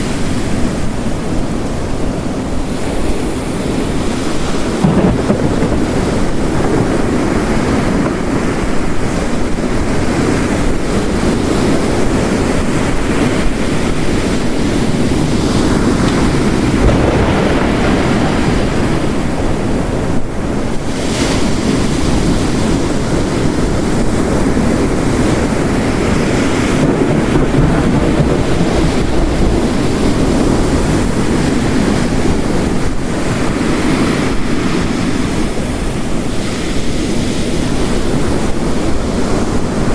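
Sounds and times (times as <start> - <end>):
heavy rain: 0.0 - 39.9
waves crashing on rocks: 0.0 - 39.9.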